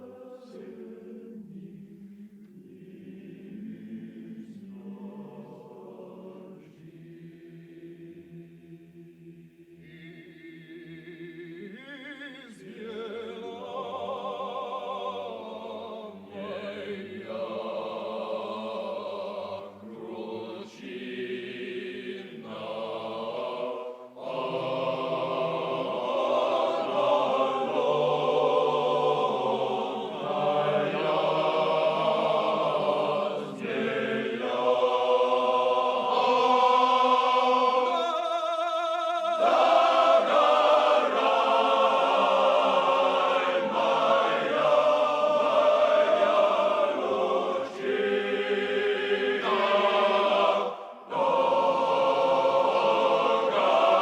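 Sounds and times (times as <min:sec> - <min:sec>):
male chorus singing a cappella: 0:00.0 - 0:54.0.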